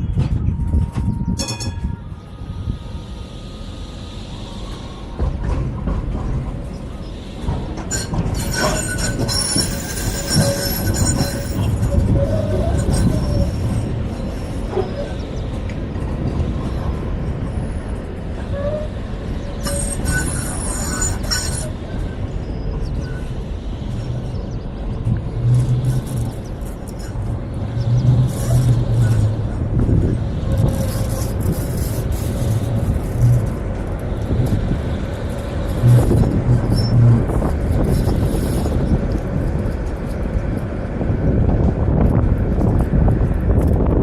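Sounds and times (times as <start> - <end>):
tram wheels rumbling on rails: 0.0 - 44.0.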